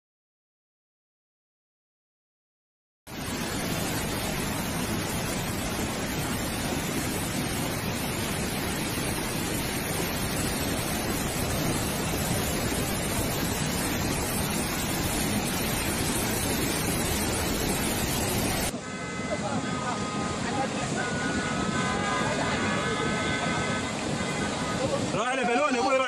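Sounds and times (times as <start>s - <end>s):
rushing water: 3.1s - 26.0s.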